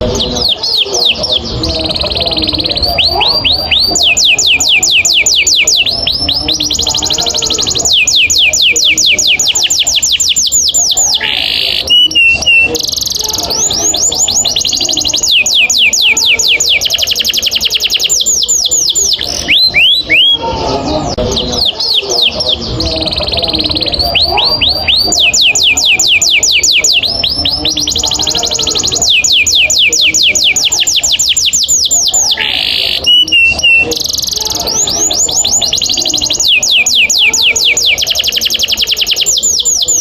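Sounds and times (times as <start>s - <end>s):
canary trilling song: 0.0s - 40.0s.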